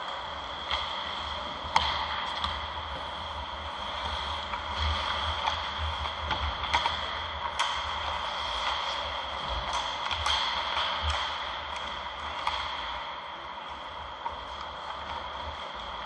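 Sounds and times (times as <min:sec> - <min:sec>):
hockey sticks and puck clacking: 0:00.0 - 0:16.0
skates scraping ice: 0:00.1 - 0:16.0.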